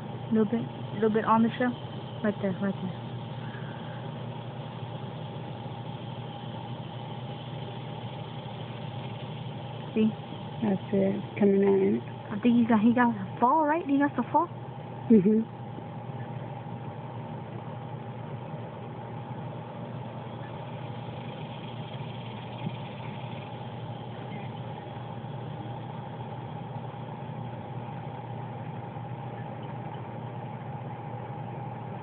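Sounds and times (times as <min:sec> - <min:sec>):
steady mechanical hum: 0:00.0 - 0:32.0.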